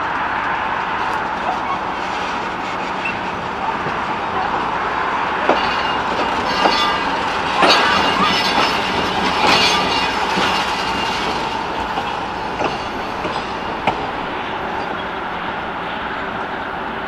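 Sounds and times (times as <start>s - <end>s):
train wheels running on track: 0.0s - 17.0s.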